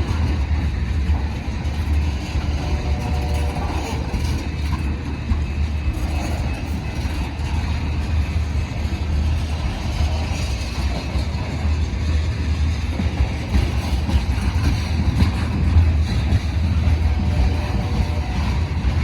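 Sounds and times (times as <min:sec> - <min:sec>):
diesel locomotive rumble: 0:00.0 - 0:19.0.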